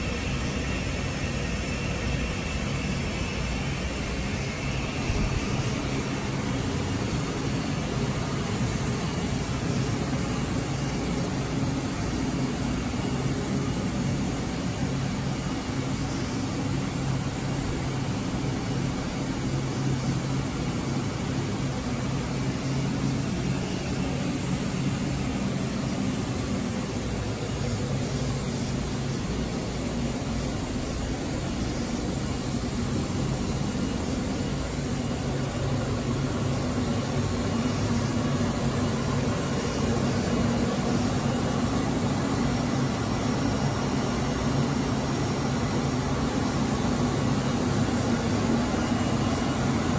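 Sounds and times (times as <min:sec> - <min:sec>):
even hiss: 0:00.0 - 0:49.9
machine idle hum: 0:00.0 - 0:49.9.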